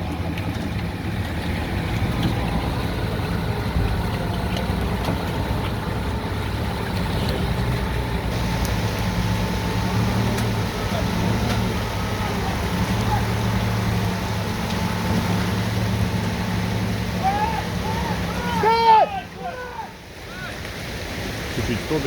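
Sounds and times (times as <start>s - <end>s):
heavy truck engine running: 0.0s - 20.2s.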